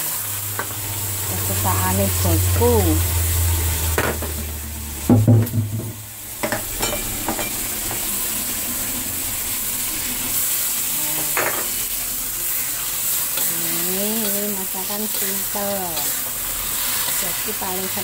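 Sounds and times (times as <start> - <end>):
shrimp sizzling in a frying pan: 0.0 - 18.0.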